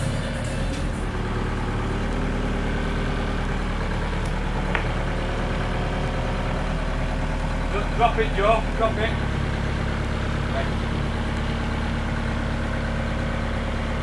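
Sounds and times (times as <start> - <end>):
forklift engine idling: 0.0 - 14.0.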